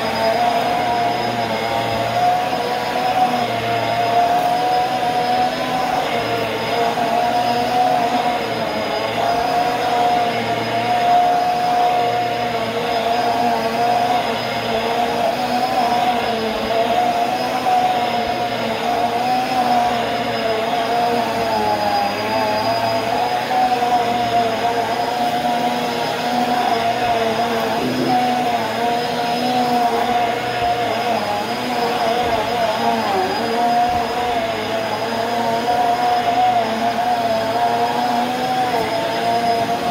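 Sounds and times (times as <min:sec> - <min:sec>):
thin high whine: 0:00.0 - 0:39.9
vacuum cleaner running: 0:00.0 - 0:39.9.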